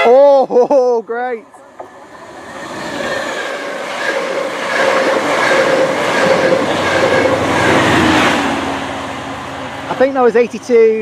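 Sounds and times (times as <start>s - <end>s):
train passing: 1.3s - 11.0s
wheels rolling on rail: 1.4s - 10.8s.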